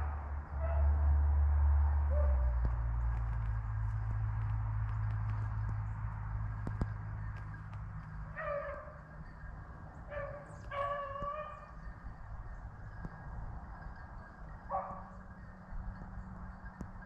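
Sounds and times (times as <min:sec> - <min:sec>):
distant hounds baying and yipping: 0:00.0 - 0:01.2, 0:02.0 - 0:03.5, 0:04.9 - 0:17.0.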